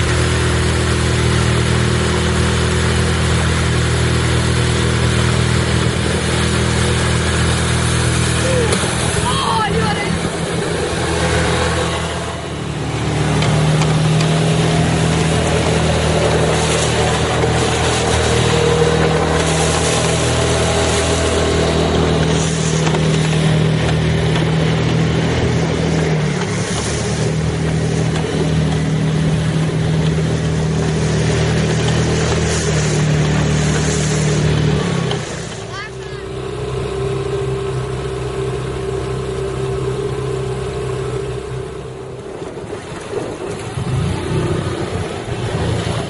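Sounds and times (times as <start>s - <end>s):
outboard motor running: 0.0s - 46.0s
water rushing past hull: 0.0s - 46.0s.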